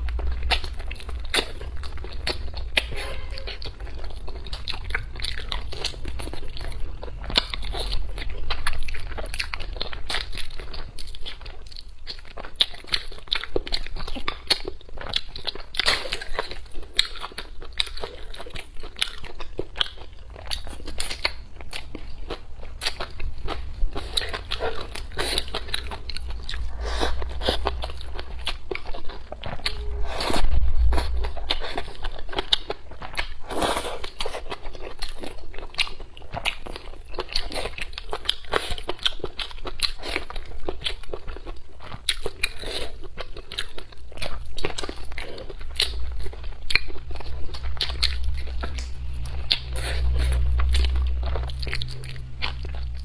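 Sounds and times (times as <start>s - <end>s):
person chewing and biting: 0.0s - 53.0s.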